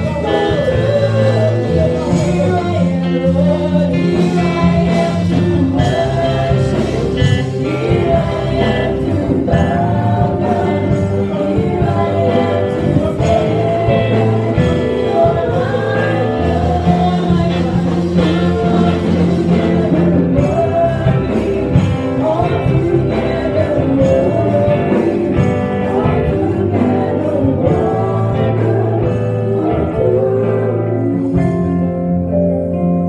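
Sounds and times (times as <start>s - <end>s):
keyboard and guitar band: 0.0s - 33.0s
singers on microphones: 0.0s - 33.0s.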